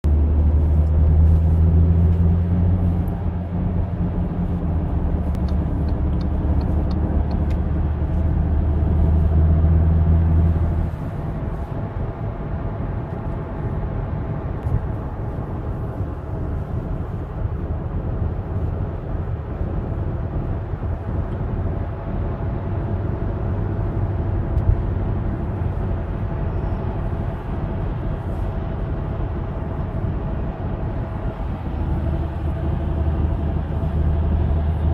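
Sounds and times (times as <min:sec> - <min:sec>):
tyre and road rumble: 0:00.0 - 0:34.9.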